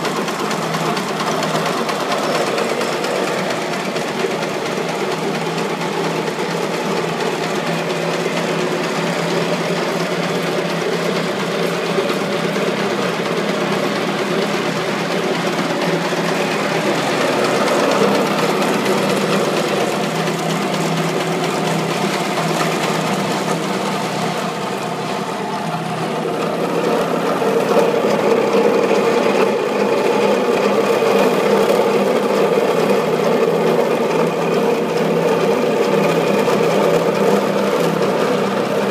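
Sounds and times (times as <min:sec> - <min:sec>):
winding machine running: 0:00.0 - 0:38.9.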